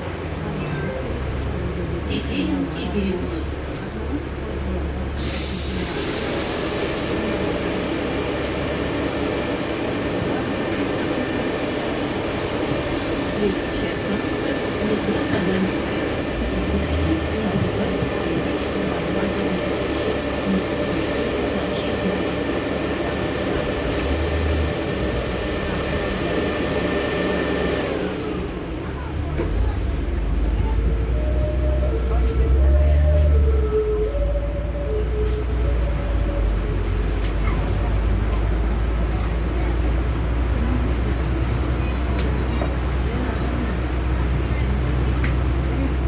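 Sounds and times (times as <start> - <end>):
bus engine and cabin noise: 0.0 - 46.0.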